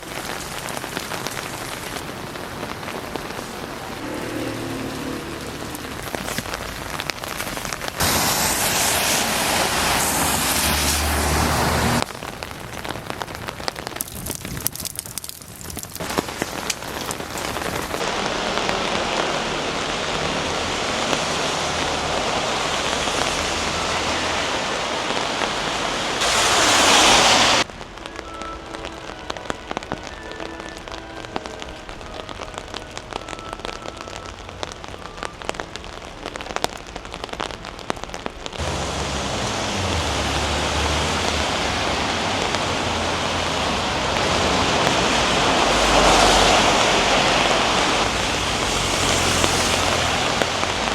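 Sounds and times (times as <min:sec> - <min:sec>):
rain pattering on umbrella: 0:00.0 - 0:50.9.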